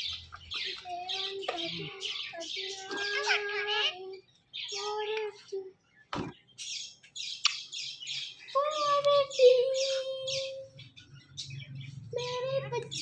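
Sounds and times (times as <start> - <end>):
parrots chirping: 0.0 - 5.0, 6.2 - 13.0.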